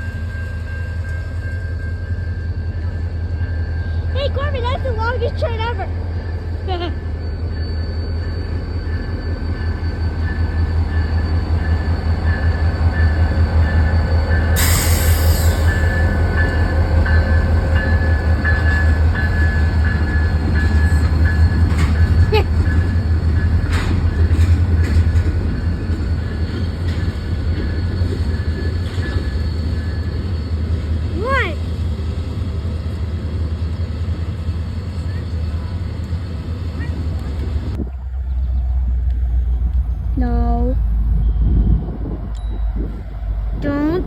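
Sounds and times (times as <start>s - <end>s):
train rumbling past: 0.0s - 44.0s
train wheels squealing: 0.0s - 44.0s.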